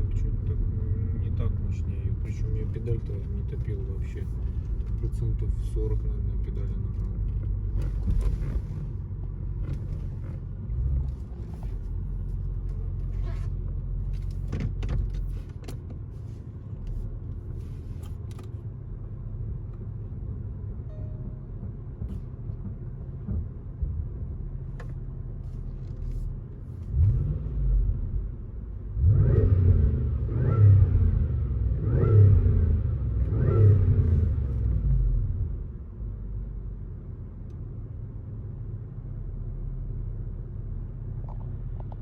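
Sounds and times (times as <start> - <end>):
car engine rumble: 0.0 - 42.0
road noise inside car cabin: 0.0 - 42.0.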